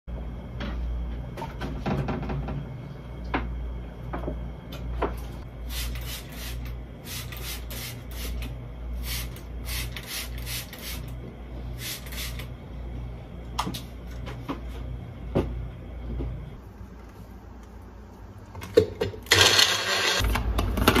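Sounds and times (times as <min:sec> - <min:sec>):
low pulsing hum: 0:00.1 - 0:17.0.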